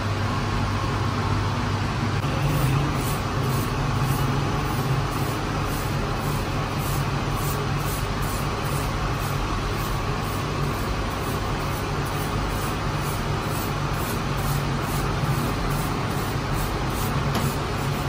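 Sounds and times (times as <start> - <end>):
bread oven mechanical drone: 0.0 - 18.0.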